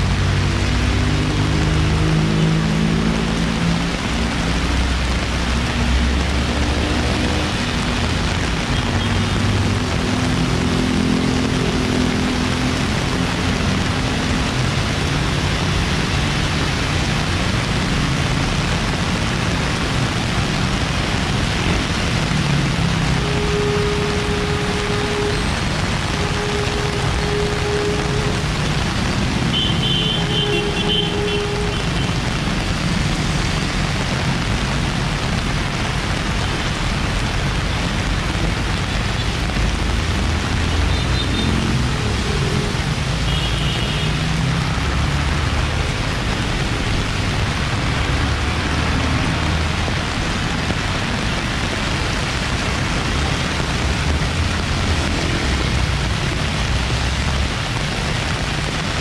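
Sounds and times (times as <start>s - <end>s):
heavy rain pouring: 0.0s - 59.0s
vehicles driving through water: 0.0s - 59.0s.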